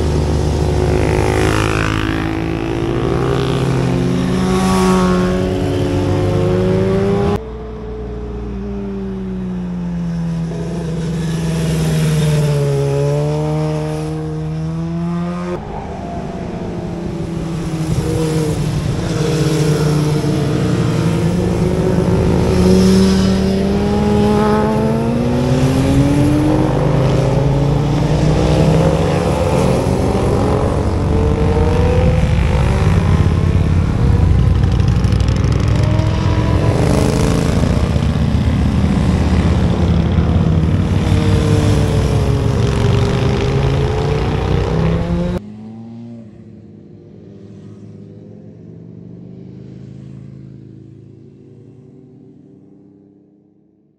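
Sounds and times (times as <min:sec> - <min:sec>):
motorcycles accelerating past: 0:00.0 - 0:07.4, 0:10.0 - 0:53.4.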